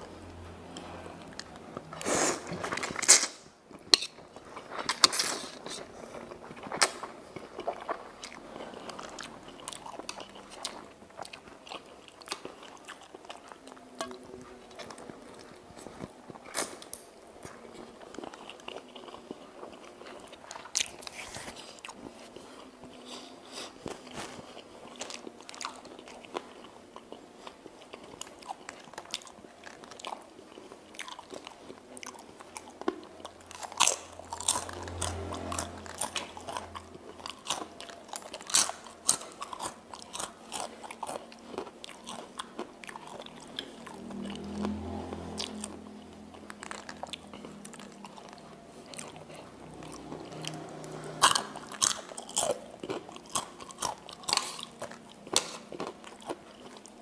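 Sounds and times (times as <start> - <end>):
wet chewing: 0.7 - 57.0.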